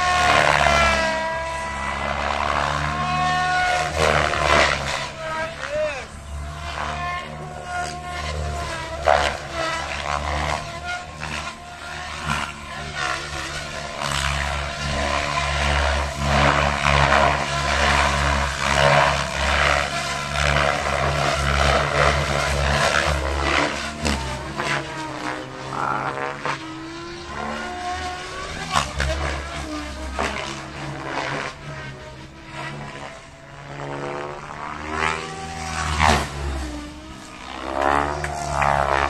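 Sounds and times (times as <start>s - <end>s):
model helicopter rotor whine: 0.0s - 39.0s.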